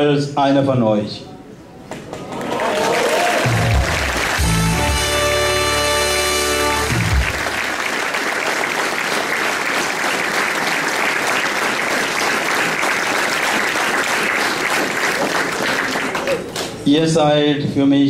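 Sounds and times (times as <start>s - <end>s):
audience applauding: 1.9s - 16.8s.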